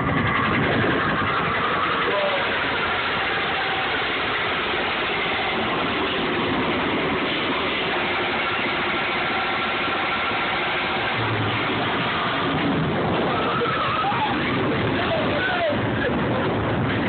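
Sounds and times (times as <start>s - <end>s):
steady mechanical engine noise: 0.0s - 17.0s.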